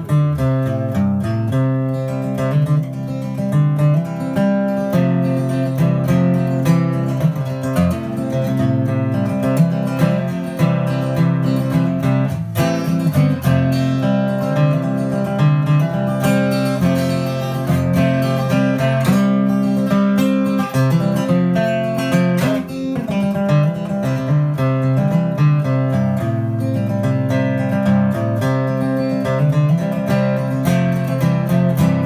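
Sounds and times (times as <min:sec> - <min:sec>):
solo acoustic guitar: 0:00.0 - 0:32.0.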